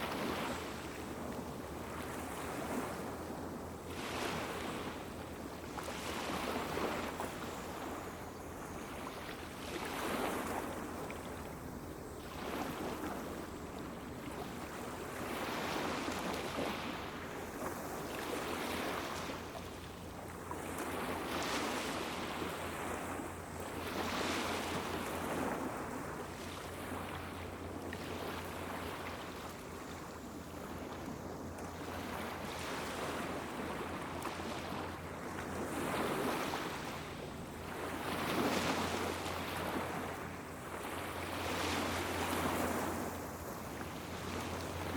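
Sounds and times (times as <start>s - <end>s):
small waves washing onto beach: 0.0s - 44.9s.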